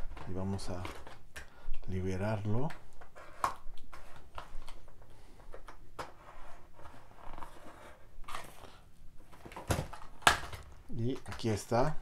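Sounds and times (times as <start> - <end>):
plastic crackling: 0.0 - 6.1, 8.2 - 12.0.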